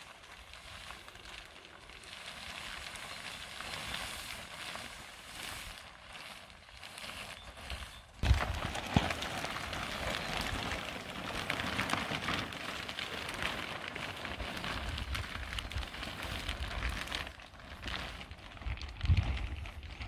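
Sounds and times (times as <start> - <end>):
plastic film crackling: 0.0 - 20.0.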